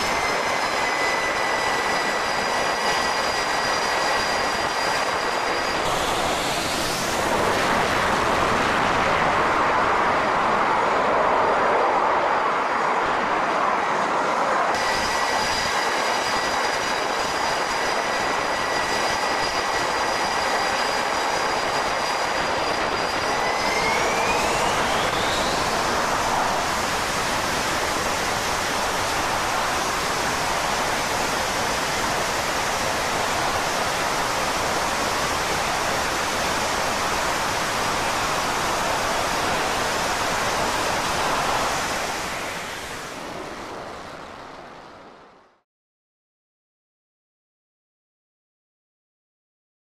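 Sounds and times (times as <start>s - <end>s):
high engine whine: 0.0s - 45.6s
jet engines running: 0.0s - 45.6s.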